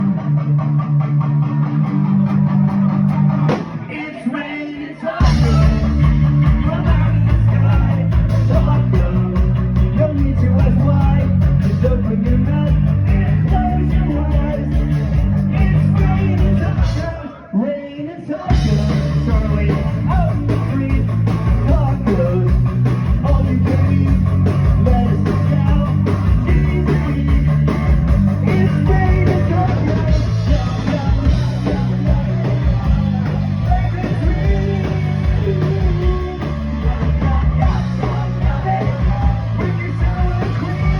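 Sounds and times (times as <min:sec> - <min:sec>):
rock band playing: 0:00.0 - 0:17.3, 0:18.4 - 0:40.9.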